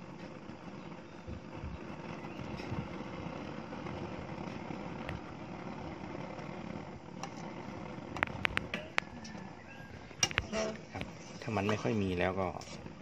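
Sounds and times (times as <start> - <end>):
pot boiling on gas burner: 0.0 - 13.0.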